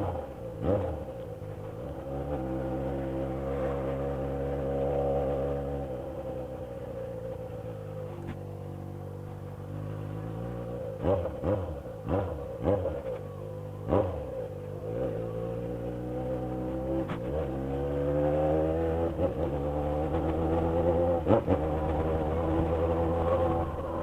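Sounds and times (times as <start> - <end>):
motorcycle throttle revs: 0.0 - 24.0.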